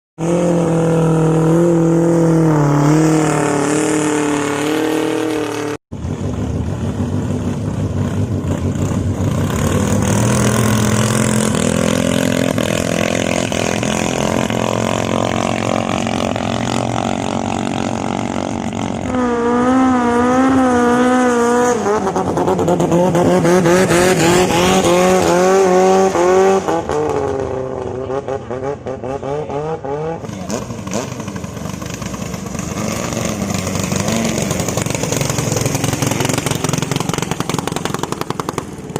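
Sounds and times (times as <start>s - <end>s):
boat engines revving: 7.4s - 38.9s.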